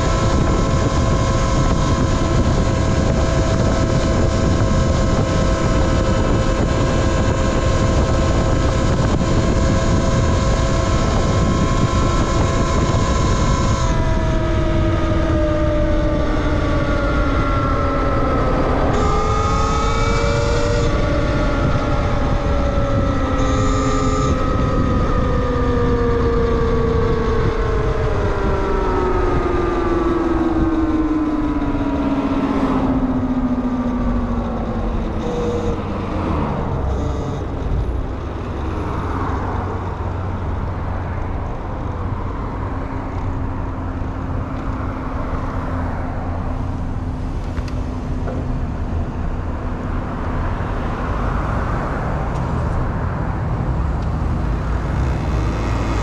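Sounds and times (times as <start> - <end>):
electric motor whining: 0.0 - 56.0
wind and road noise: 0.0 - 56.0.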